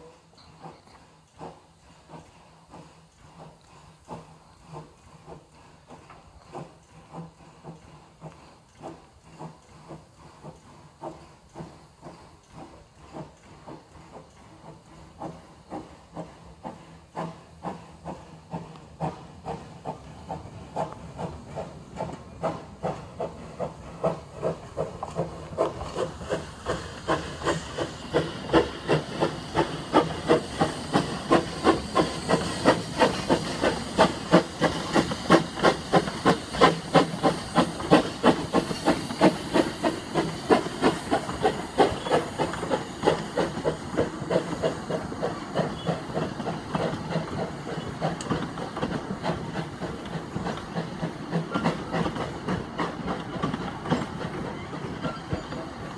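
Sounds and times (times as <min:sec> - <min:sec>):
steam hissing: 0:00.0 - 0:55.9
steam locomotive chuffing: 0:00.0 - 0:55.9.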